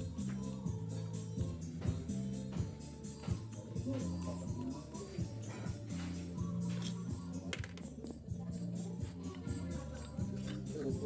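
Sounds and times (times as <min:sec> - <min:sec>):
background music with light percussion: 0:00.0 - 0:11.0.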